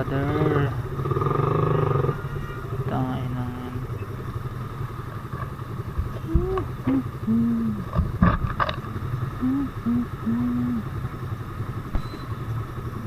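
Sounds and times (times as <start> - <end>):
low hooting tones: 0.0 - 8.0, 8.9 - 13.0
motorcycle engine idling: 0.0 - 13.0.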